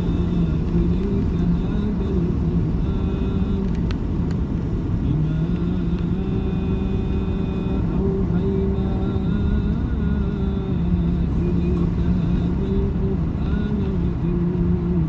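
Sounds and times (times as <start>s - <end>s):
car engine drone: 0.0s - 15.0s
road rumble: 0.0s - 15.0s.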